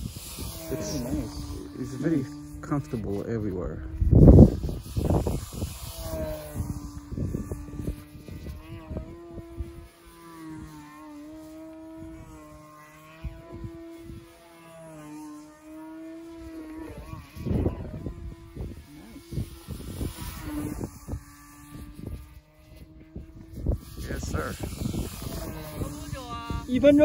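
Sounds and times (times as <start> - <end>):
model plane motor droning: 0.0 - 27.0
wind buffeting microphone: 0.0 - 27.0.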